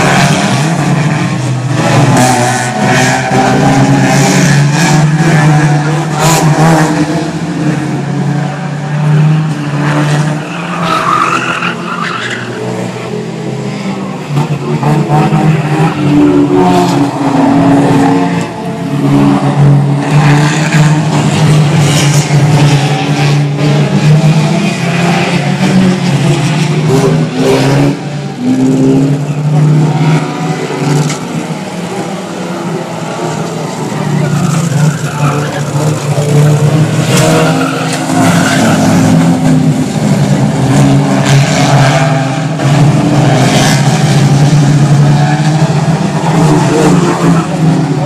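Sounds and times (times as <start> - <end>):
race car engines revving: 0.0 - 48.0
tyres skidding on tarmac: 0.0 - 48.0.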